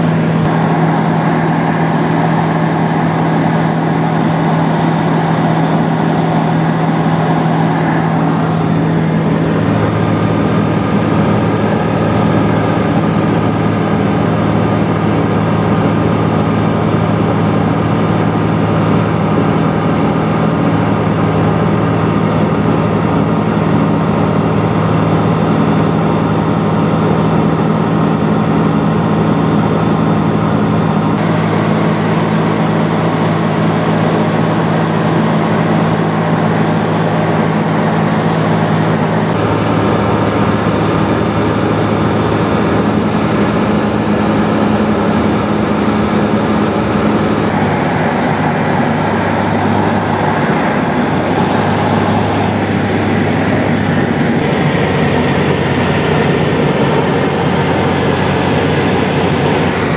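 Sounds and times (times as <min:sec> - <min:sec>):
aircraft engine and propeller droning: 0:00.0 - 0:59.9.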